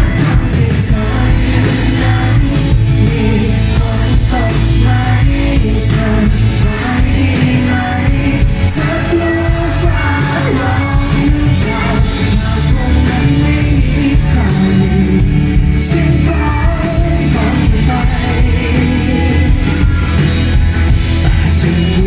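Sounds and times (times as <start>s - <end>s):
live pop-rock band: 0.0s - 22.0s
male vocalist singing: 0.0s - 22.0s.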